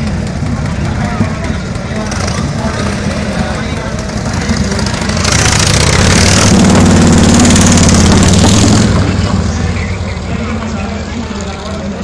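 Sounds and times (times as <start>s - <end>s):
motorcycle engines running loud: 0.0s - 12.0s.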